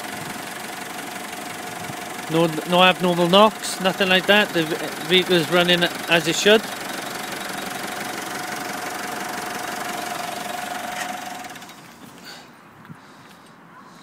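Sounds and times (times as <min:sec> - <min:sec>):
diesel engine idling: 0:00.0 - 0:12.2.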